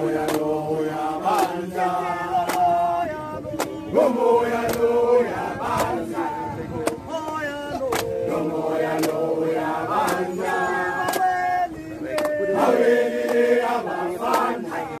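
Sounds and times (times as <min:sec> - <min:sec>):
crowd chanting: 0:00.0 - 0:15.0.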